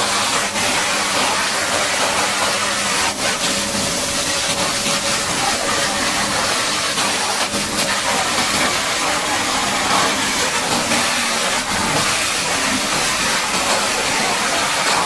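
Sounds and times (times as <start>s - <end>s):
high-pressure water jet hissing: 0.0s - 15.0s.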